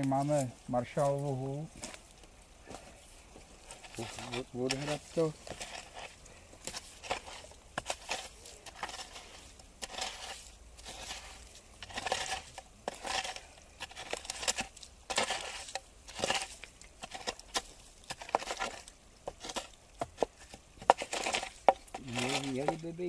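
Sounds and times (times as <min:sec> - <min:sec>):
branch scraping through wet gravel: 0:03.0 - 0:23.0.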